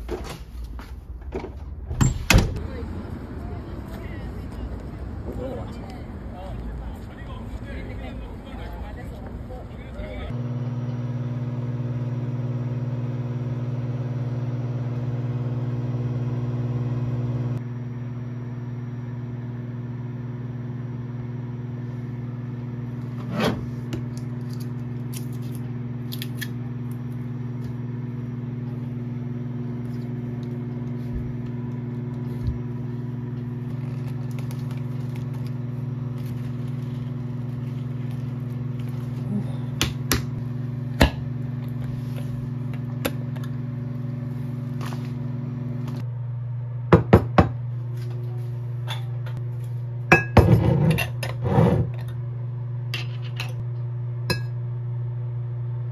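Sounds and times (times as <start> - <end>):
microwave oven humming: 1.9 - 55.9.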